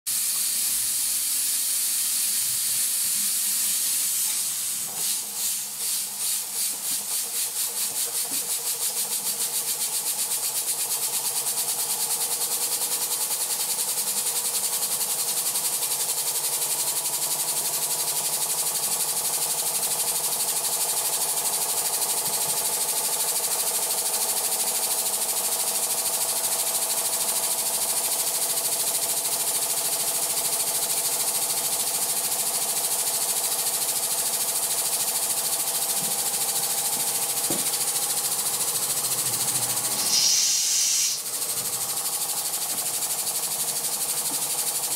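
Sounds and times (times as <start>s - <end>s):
steam hissing: 0.1s - 44.9s
toy steam engine beat: 1.5s - 44.9s.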